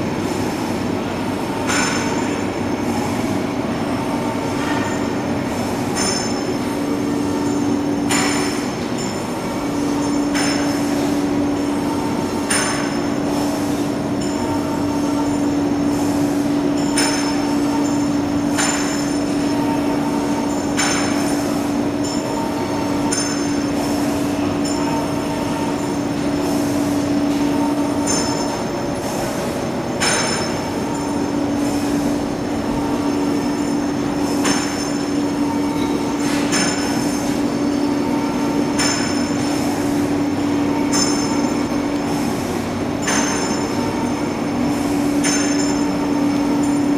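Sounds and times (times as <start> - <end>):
machinery humming: 0.0 - 46.9.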